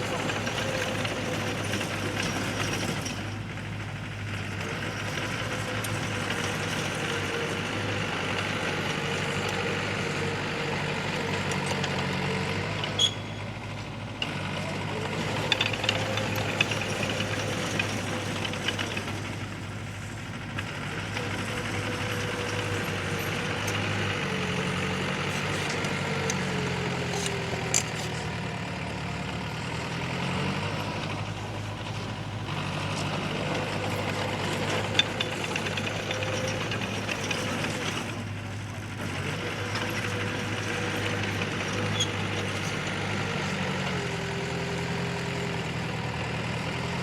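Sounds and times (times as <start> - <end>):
diesel earth-moving machine running: 0.0 - 47.0.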